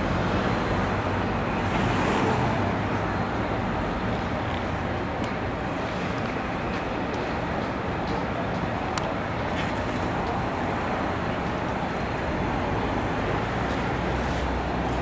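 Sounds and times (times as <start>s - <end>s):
city road traffic hum: 0.0s - 15.0s.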